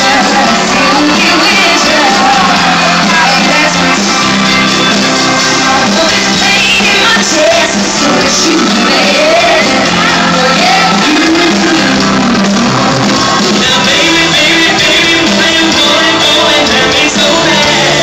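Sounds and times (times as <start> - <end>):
live band playing pop-soul: 0.0 - 18.0
singers singing: 0.0 - 18.0.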